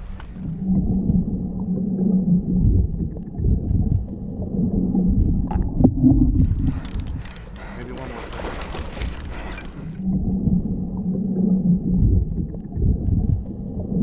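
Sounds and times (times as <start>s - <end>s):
gurgling water underwater: 0.0s - 14.0s
low hum and rumble: 0.0s - 14.0s.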